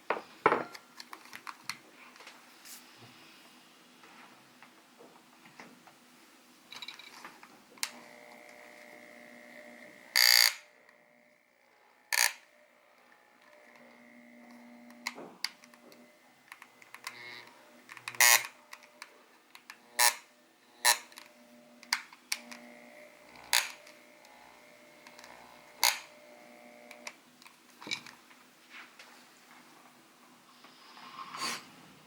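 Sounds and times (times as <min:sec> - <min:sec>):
electric massager whine: 0:00.0 - 0:04.7, 0:05.3 - 0:32.0.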